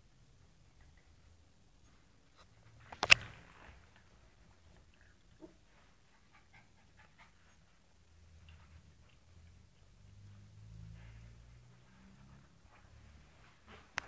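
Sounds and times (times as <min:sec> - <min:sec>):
faint small puppy noises: 0:00.3 - 0:13.4.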